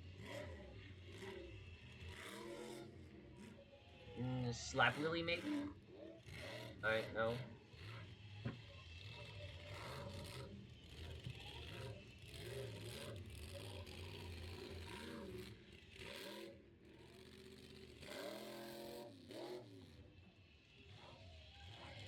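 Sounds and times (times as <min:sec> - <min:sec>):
faint monster truck engine revving: 0:00.0 - 0:22.0.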